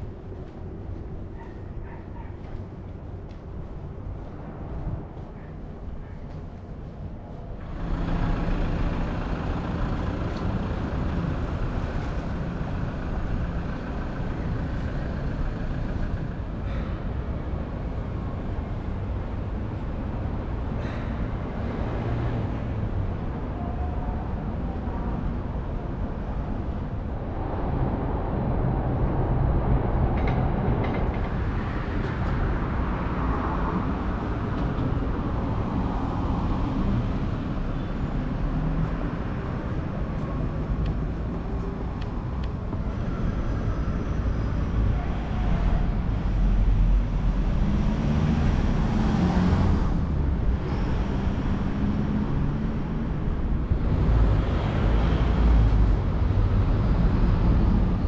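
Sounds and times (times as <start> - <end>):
passing vehicles rumble: 0.0 - 58.0.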